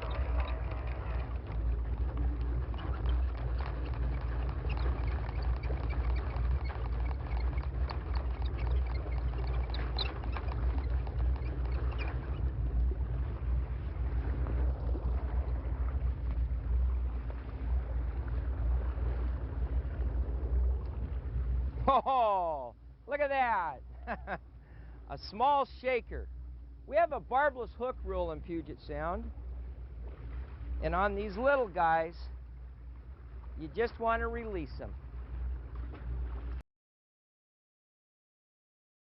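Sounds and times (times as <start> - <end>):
boat engine rumbling: 0.0 - 36.6.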